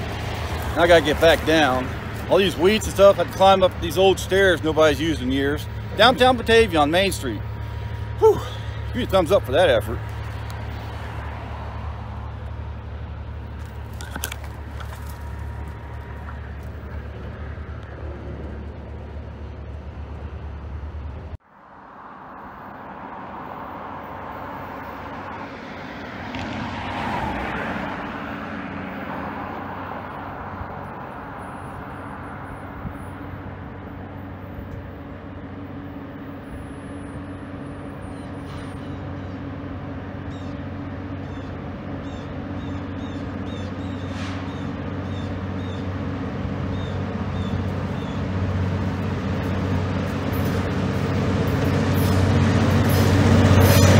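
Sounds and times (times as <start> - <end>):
diesel locomotive engine droning: 0.0 - 53.9
road traffic rumble: 0.0 - 53.9.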